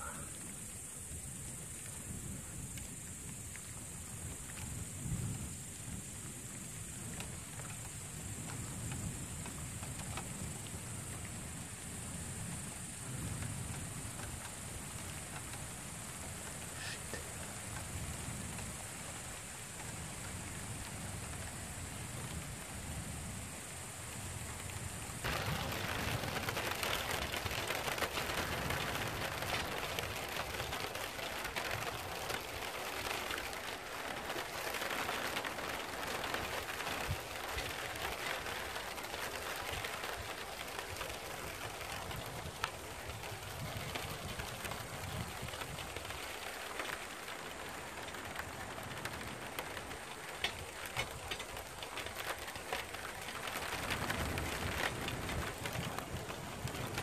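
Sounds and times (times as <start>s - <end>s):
rain falling: 0.0s - 57.0s
raindrop ticks: 0.0s - 57.0s.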